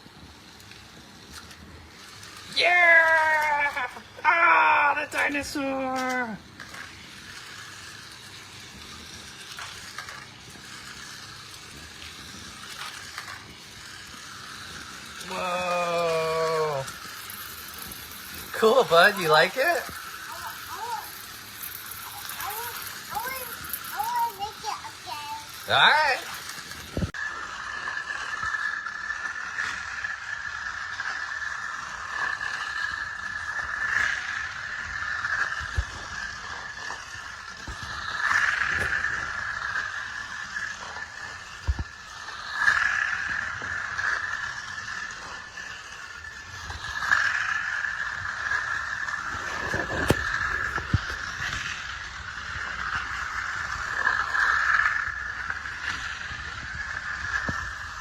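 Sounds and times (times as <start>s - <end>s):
toy car motor rattling on track: 0.0s - 58.0s.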